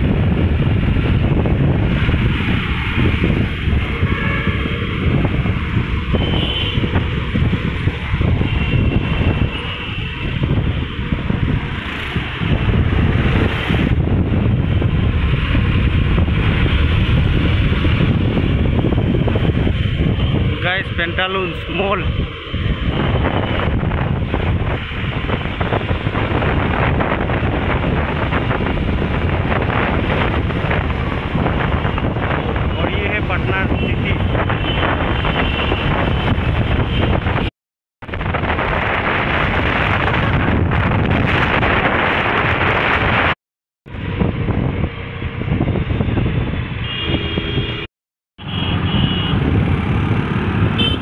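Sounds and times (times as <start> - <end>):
wind buffeting microphone: 0.0 - 47.9, 48.8 - 51.0
engine and road noise: 0.0 - 51.0.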